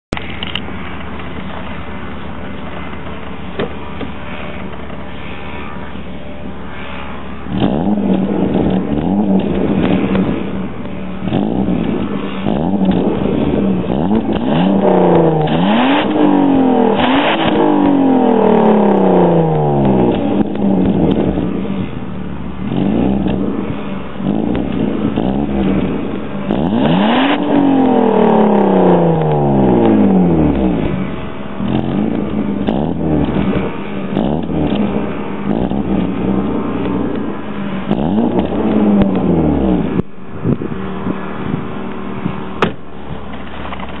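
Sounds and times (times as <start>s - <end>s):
car engine revving and idling: 0.0s - 44.0s.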